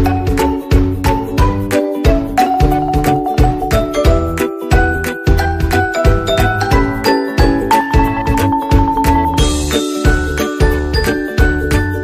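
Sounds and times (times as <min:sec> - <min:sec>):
upbeat mallet percussion music: 0:00.0 - 0:12.0.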